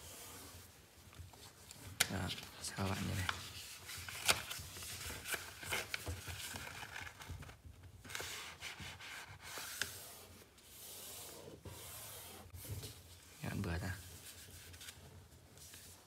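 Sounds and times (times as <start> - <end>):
paper rustling while folded: 0.0 - 16.0.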